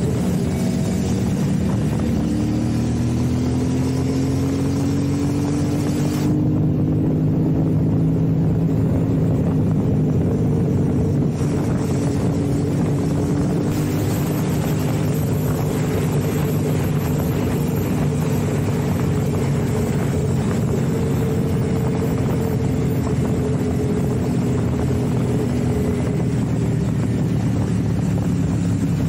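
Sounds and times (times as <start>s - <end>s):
motorcycle engine cruising: 0.0s - 29.0s
wind and road noise: 0.0s - 29.0s.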